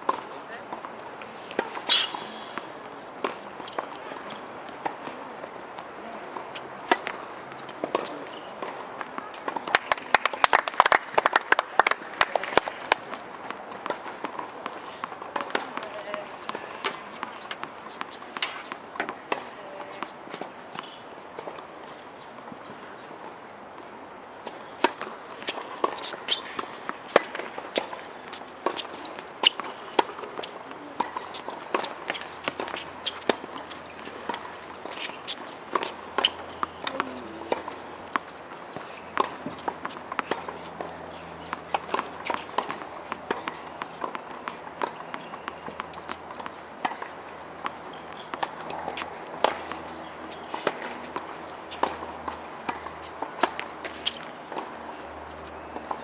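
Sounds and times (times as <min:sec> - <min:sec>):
tennis balls struck by rackets: 0:00.0 - 0:21.6, 0:24.4 - 0:56.0
balls bouncing on hard court: 0:06.4 - 0:21.6, 0:24.4 - 0:56.0.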